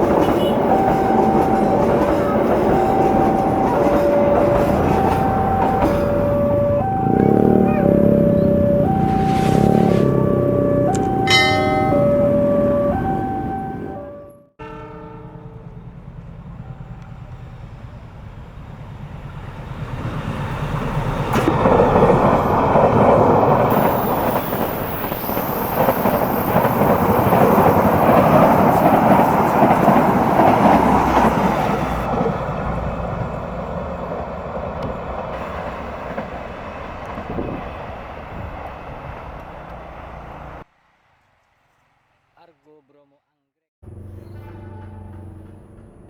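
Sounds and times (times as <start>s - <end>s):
train rumbling on rails: 0.0s - 40.7s, 43.8s - 46.0s.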